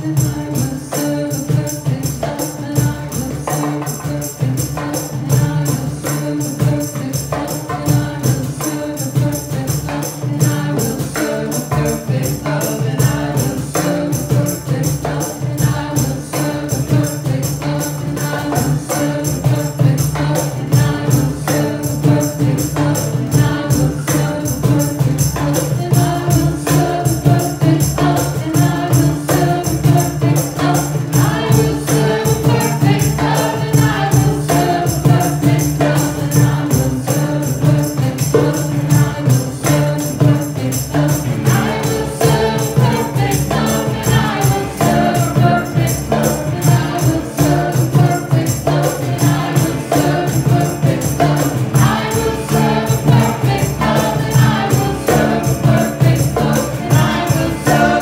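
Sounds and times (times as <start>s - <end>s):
guitars: 0.0s - 58.0s
hand percussion with jingles: 0.0s - 58.0s
people singing: 0.0s - 58.0s.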